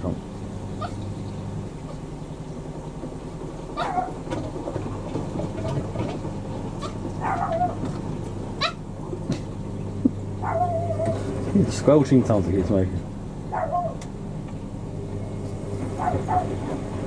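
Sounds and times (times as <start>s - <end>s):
washing machines running: 0.0s - 17.0s.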